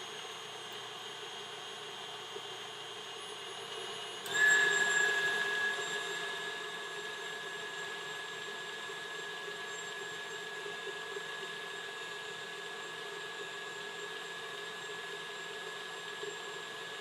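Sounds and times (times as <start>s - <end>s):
stand mixer whipping cream: 0.0s - 17.0s.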